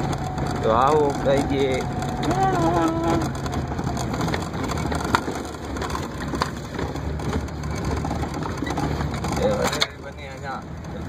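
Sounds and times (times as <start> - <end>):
low engine rumble: 0.0 - 11.0
rattling crunching noise: 0.0 - 11.0
sharp knocks of vehicle bouncing: 0.0 - 11.0.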